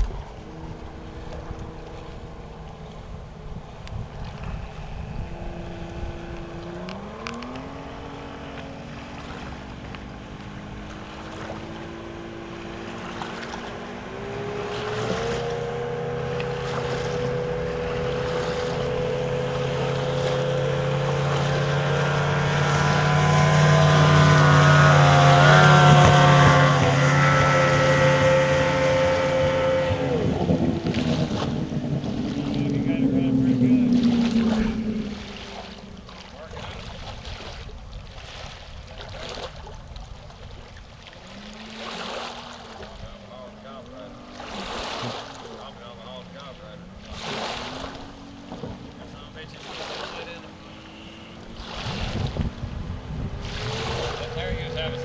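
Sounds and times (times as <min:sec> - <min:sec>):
motorboat engine passing: 0:00.0 - 0:55.0.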